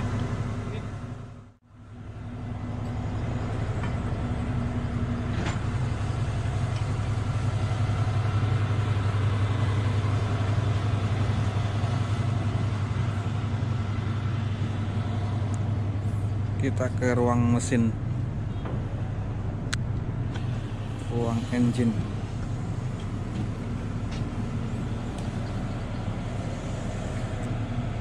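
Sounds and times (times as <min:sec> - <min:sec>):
excavator engine humming: 0:00.0 - 0:28.0.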